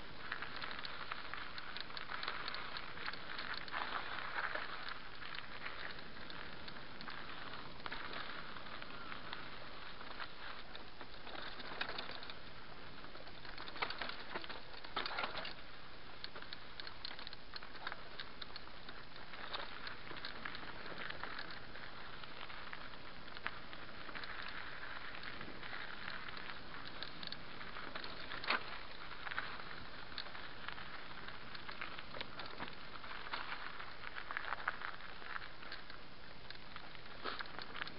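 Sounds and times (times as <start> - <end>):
bike knocking and rattling over stones: 0.0 - 35.9
bike tyres on dirt trail: 0.0 - 37.9.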